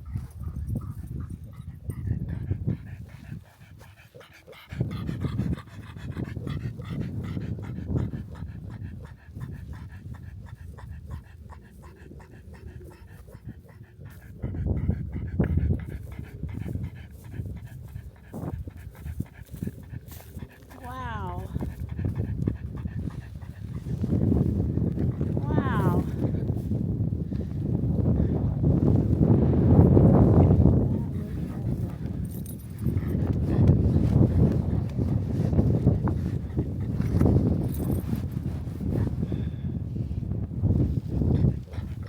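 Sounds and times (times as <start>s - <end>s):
dog panting: 0.0s - 39.8s, 40.8s - 42.0s.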